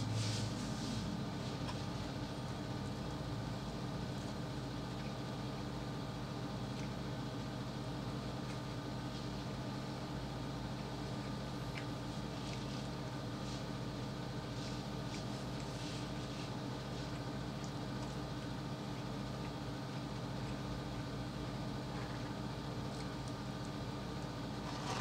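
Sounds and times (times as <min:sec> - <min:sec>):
steady low hum: 0:00.0 - 0:25.0
eating with fingers clicks and smacks: 0:01.6 - 0:24.6.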